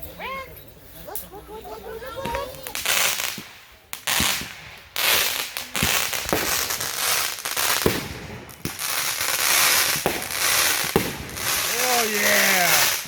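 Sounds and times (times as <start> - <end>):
firework bangs: 2.2 - 13.0
firework crackling hiss: 2.2 - 13.0.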